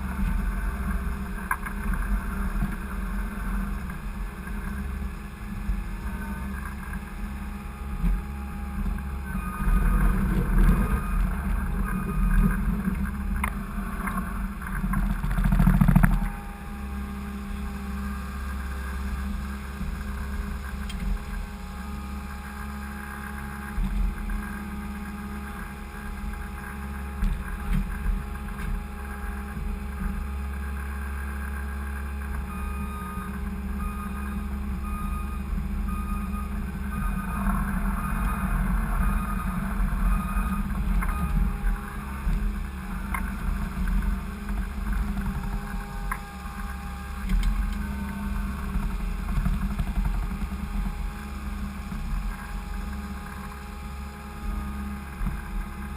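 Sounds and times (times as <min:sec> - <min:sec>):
skid steer engine droning: 0:00.0 - 0:55.9.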